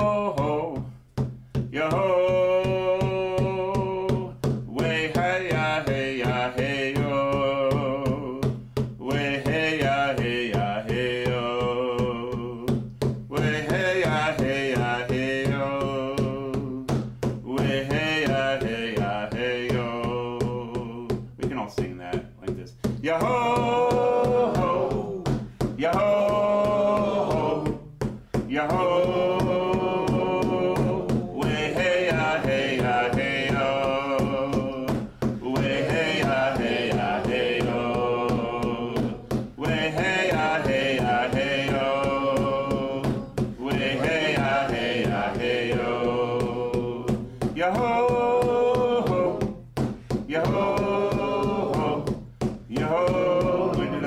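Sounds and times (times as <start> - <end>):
group of people singing a chant: 0.0 - 0.9, 1.7 - 21.2, 23.0 - 54.0.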